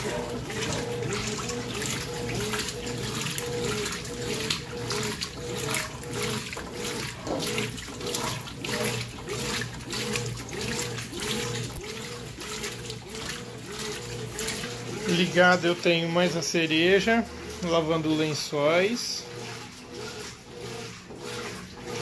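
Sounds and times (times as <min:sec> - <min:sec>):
washing machine motor whine: 0:00.0 - 0:22.0
water sloshing and splashing: 0:00.0 - 0:22.0.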